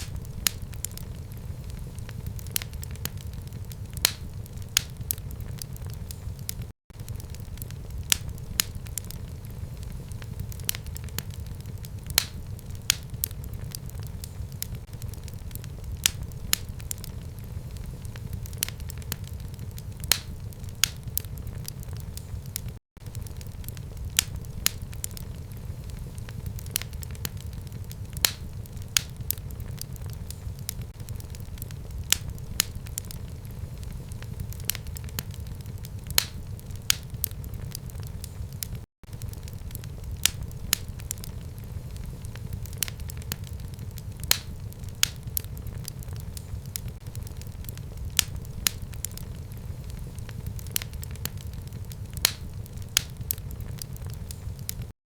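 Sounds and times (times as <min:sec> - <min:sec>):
fire flames rumbling: 0:00.0 - 0:54.9
wood fire crackling and popping: 0:00.0 - 0:54.9.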